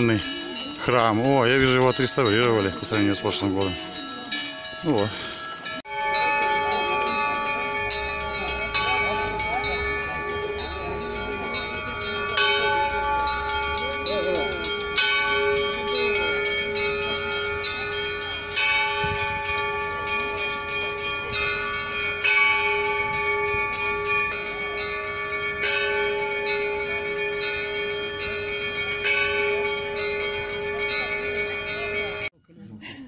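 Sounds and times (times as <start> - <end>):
church bells ringing: 0.0 - 32.3.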